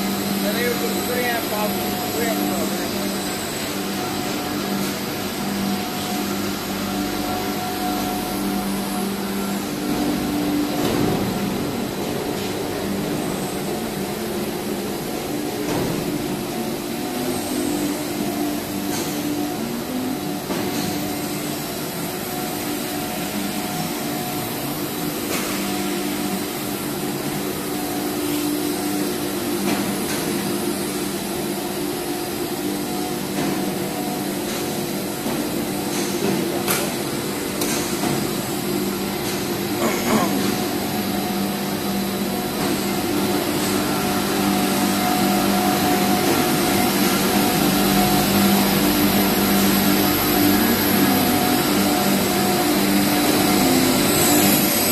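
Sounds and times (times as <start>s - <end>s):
machine hum with held tones: 0.0s - 54.9s.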